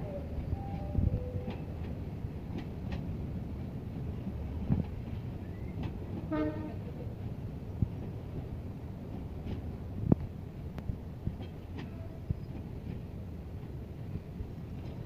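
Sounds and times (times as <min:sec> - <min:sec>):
rail clicks: 0:00.0 - 0:15.0
train wheels rumbling on rail: 0:00.0 - 0:15.0.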